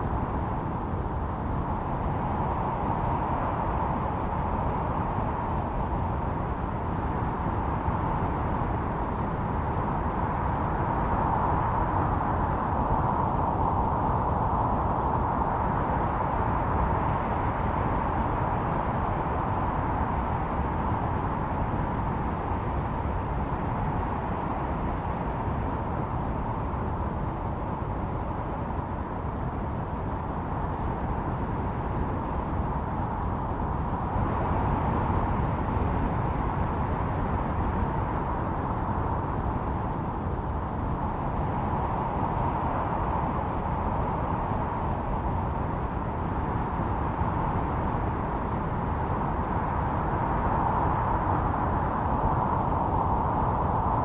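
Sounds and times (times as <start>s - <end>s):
howling blizzard wind: 0.0s - 54.0s.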